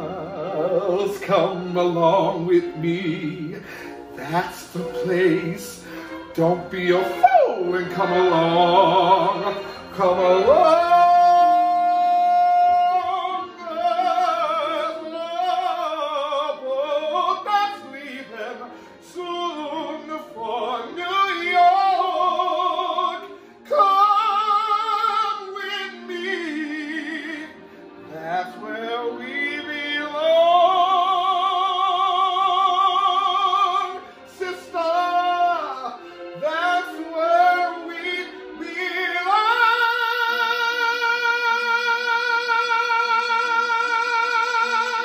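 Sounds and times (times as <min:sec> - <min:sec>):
tenor singing operatically: 0:00.0 - 0:45.0.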